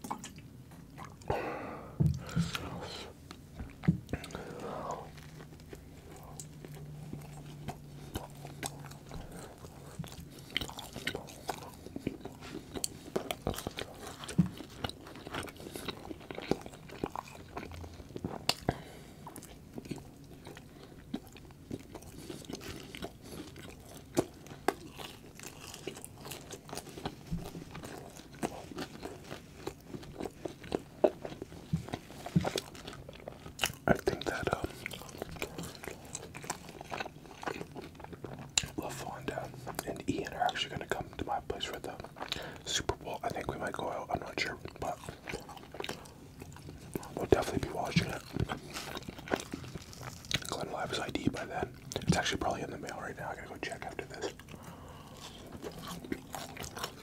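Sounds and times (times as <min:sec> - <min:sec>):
crunchy chewing: 0:02.1 - 0:57.0.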